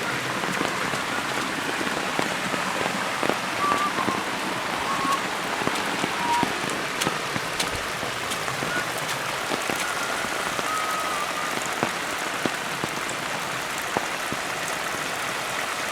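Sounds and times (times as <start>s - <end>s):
rain falling: 0.0s - 15.9s
raindrops hitting close by: 0.0s - 15.9s.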